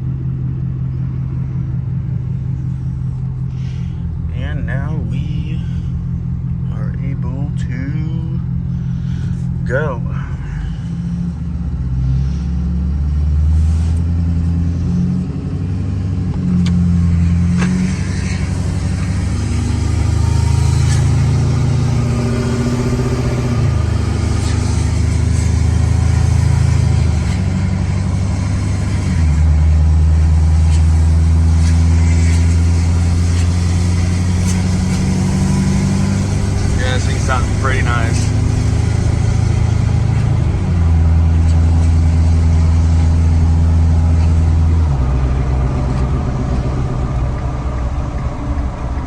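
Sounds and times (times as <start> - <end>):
pickup truck engine accelerating: 0.0 - 49.0.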